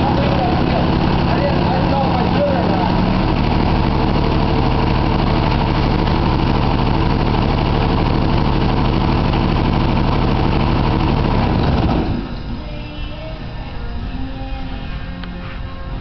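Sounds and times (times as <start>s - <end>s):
diesel engine idling: 0.0s - 13.8s.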